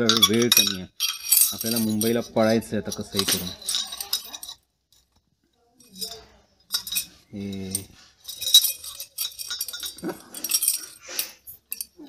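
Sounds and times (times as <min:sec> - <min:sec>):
metal skewers clinking and rattling: 0:00.0 - 0:12.0.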